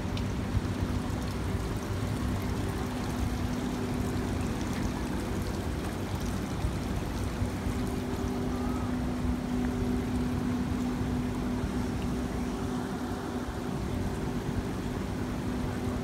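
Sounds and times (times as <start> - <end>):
steady low hum: 0.0 - 16.0
water trickling and splashing: 0.0 - 16.0.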